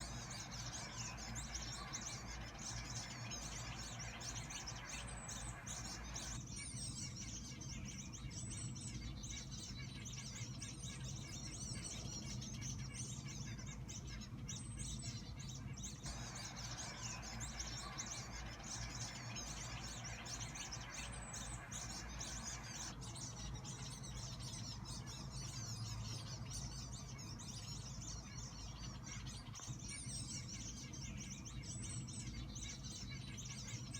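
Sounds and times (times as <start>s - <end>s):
birds chirping and calling: 0.0s - 33.9s
low background rumble: 0.0s - 33.9s.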